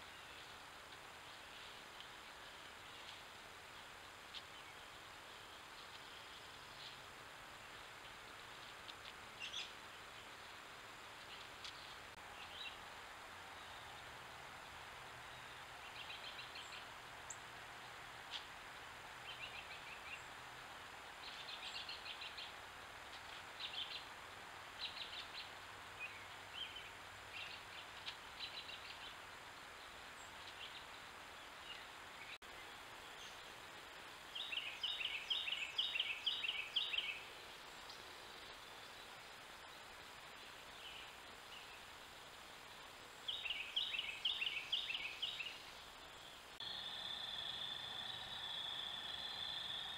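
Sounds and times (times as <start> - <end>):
steady outdoor hiss: 0.0 - 49.9.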